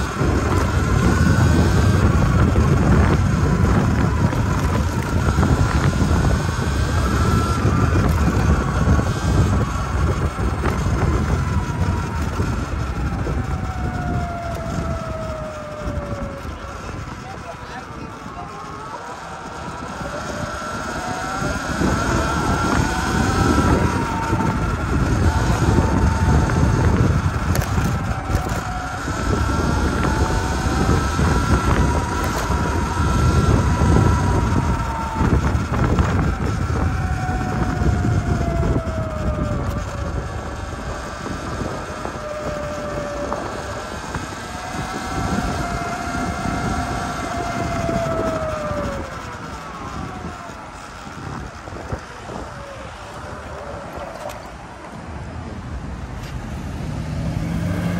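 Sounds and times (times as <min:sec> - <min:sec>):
electric dirt bike motor whine: 0:00.0 - 0:57.9
road rumble: 0:00.0 - 0:57.9
wind noise: 0:00.0 - 0:57.9.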